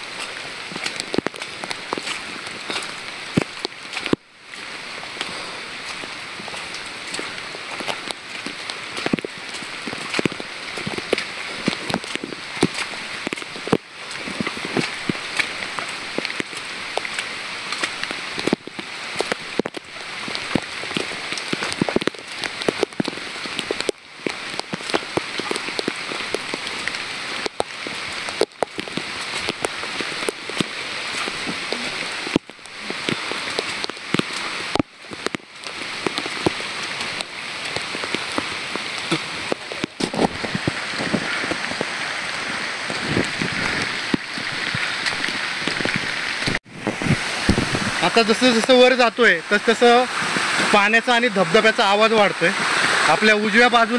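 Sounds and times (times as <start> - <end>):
raindrops ticking near microphone: 0.0 - 53.9
steady rain falling: 0.0 - 53.9.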